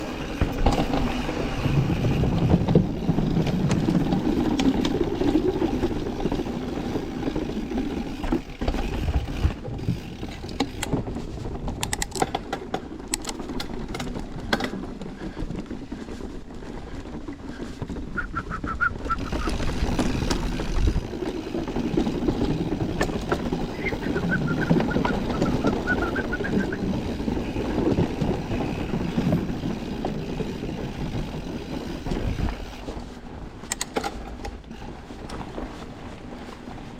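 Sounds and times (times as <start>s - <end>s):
bike rattling and clicking: 0.0s - 36.9s
wind and tyre noise: 0.0s - 36.9s.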